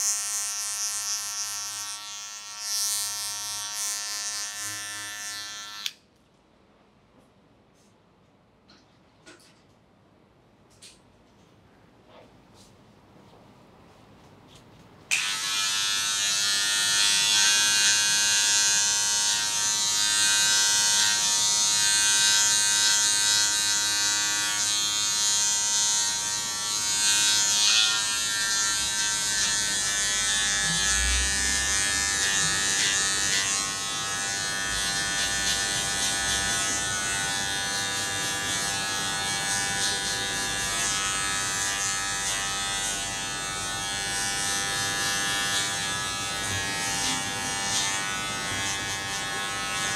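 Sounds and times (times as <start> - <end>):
electric hair clippers buzzing: 0.0 - 6.0, 15.1 - 49.9.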